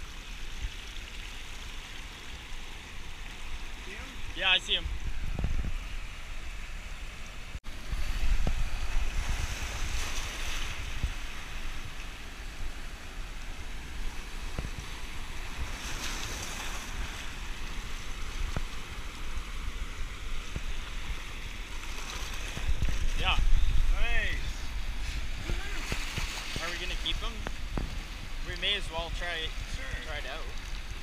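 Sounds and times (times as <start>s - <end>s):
surf washing over rocks: 0.0s - 31.0s
wind buffeting microphone: 4.2s - 6.4s, 7.6s - 31.0s.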